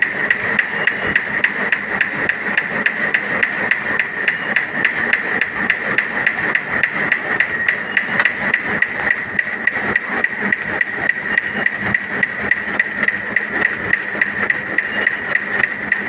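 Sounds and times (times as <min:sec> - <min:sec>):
high-pitched machine hum: 0:00.0 - 0:16.0
paper-cutting machine clicking: 0:00.0 - 0:16.0.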